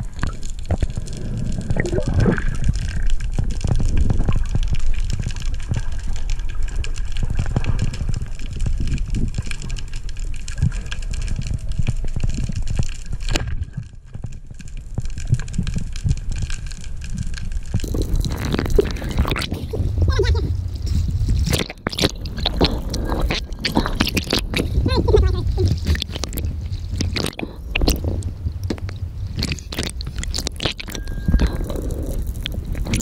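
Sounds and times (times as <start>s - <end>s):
choppy water at surface: 0.0s - 33.0s
underwater rumble with bubbling: 0.0s - 33.0s.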